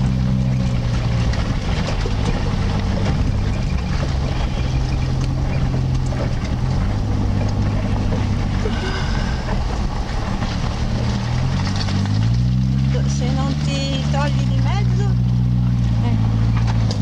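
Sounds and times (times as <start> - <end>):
off-road vehicle engine: 0.0 - 17.0.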